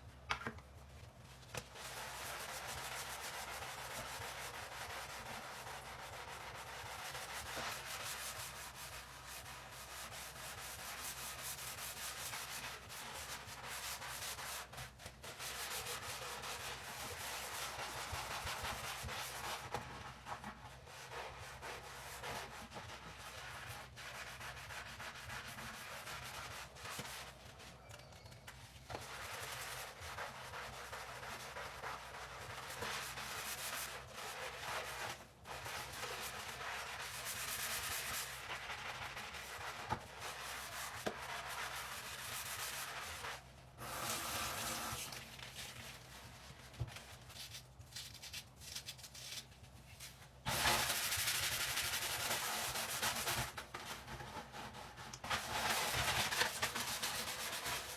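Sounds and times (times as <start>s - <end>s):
sink being scrubbed: 1.6s - 27.8s, 28.9s - 47.4s, 50.1s - 57.9s.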